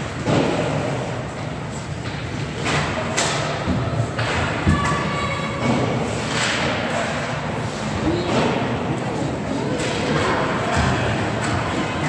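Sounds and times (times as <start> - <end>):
hockey sticks and puck thudding: 0.0 - 12.0.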